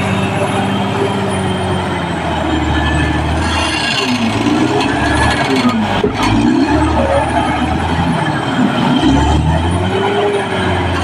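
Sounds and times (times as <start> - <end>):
bulldozer diesel engine revving: 0.0 - 11.0.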